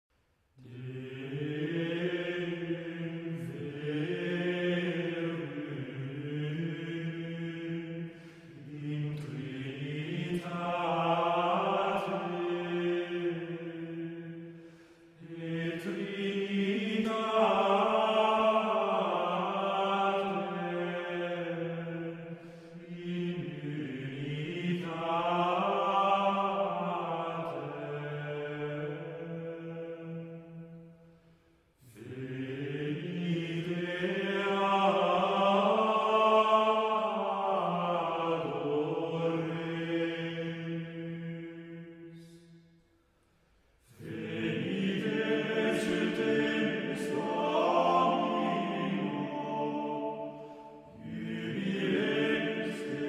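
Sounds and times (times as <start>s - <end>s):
slow chanted singing: 0.2s - 53.0s.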